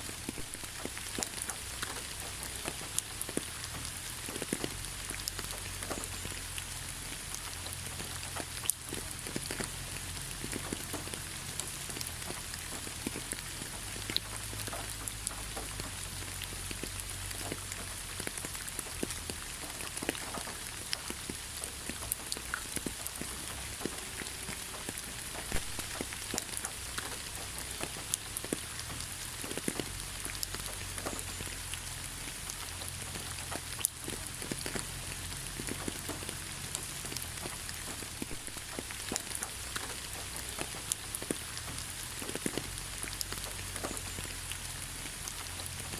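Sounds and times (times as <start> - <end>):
rain hiss: 0.0 - 45.9
raindrops ticking close by: 0.0 - 45.9.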